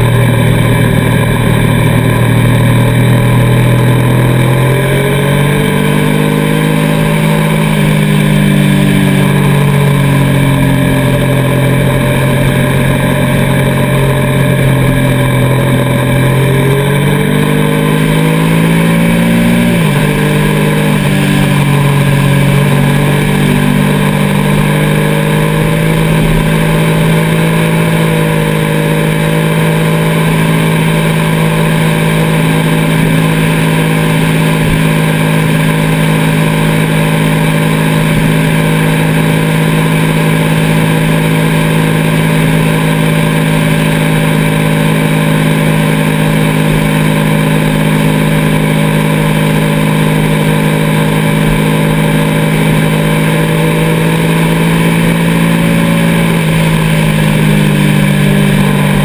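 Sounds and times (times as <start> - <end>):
vehicle engine shifting gear: 0.0 - 59.0
wind and road noise: 0.0 - 59.0.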